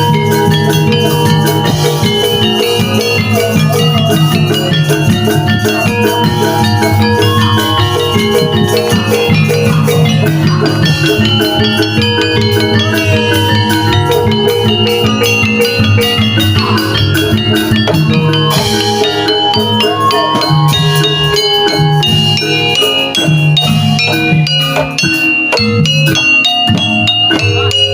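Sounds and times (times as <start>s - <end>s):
metallophones ringing: 0.0s - 27.9s
steady drumming: 0.0s - 27.9s.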